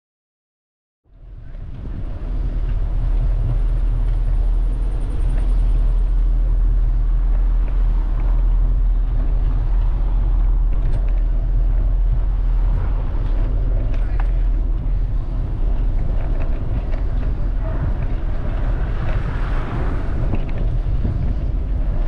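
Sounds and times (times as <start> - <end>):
low street rumble: 1.1 - 22.0
traffic noise: 1.1 - 22.0.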